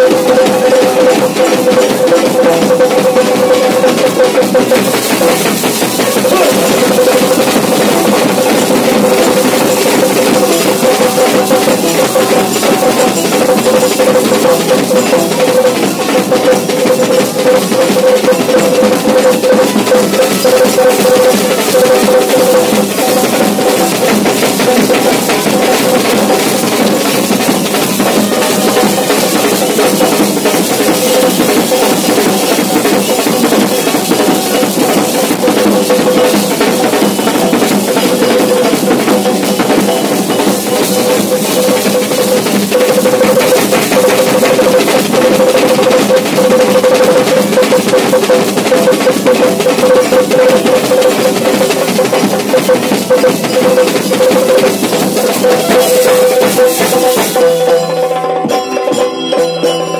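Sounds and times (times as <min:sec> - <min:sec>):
fast drumming: 0:00.0 - 0:59.9.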